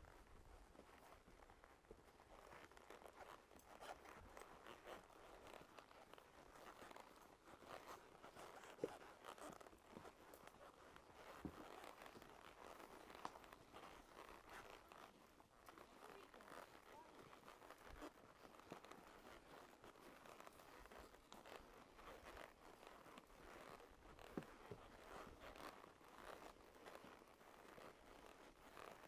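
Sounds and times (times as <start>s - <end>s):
hooves crunching on trail: 0.0s - 29.0s.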